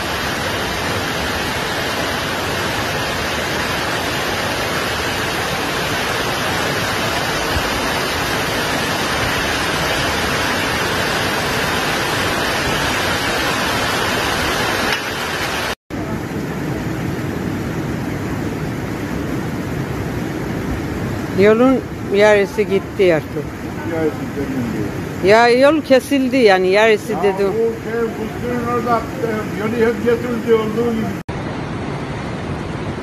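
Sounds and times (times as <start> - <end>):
fast-flowing floodwater rushing: 0.0 - 33.0.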